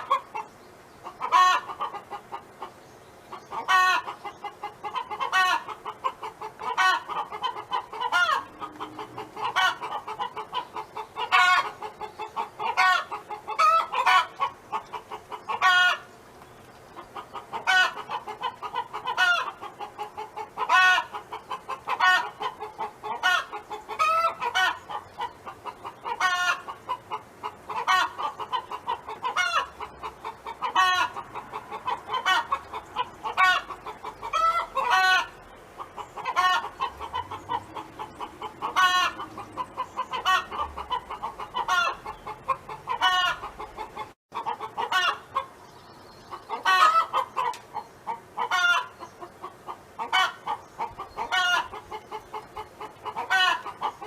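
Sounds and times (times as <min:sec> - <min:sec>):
hen clucking and calling: 0:00.0 - 0:54.0.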